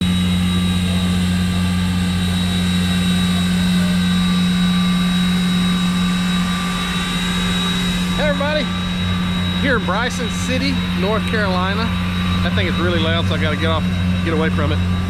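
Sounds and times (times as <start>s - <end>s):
locomotive idling: 0.0s - 15.0s.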